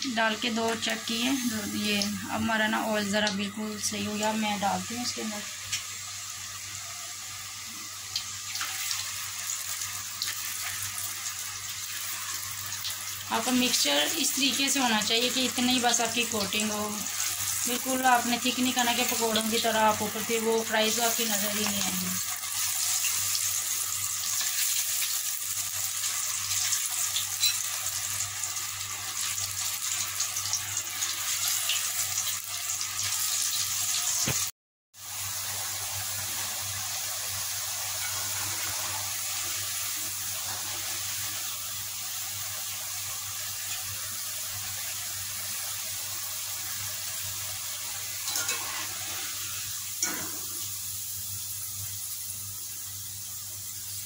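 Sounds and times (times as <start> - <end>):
fries sizzling in hot oil: 0.0 - 54.0.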